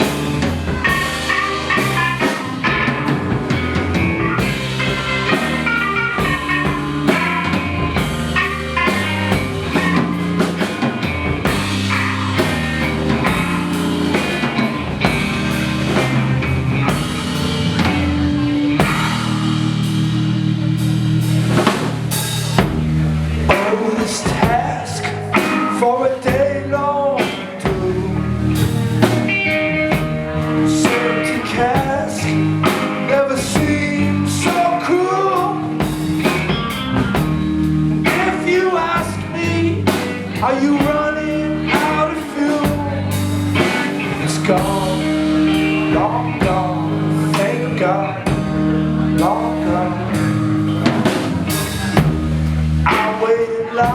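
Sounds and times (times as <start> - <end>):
drum kit beat: 0.0 - 53.9
rock band instruments: 0.0 - 53.9.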